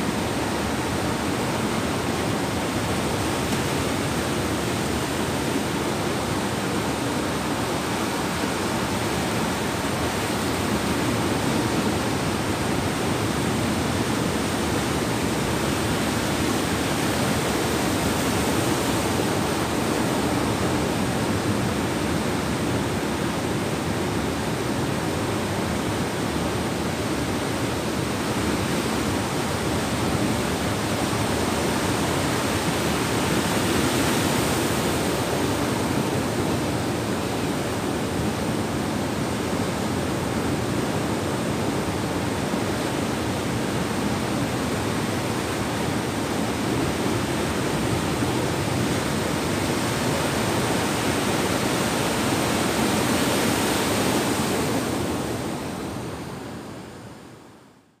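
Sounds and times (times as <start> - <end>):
waves breaking on sandy shore: 0.0 - 57.1.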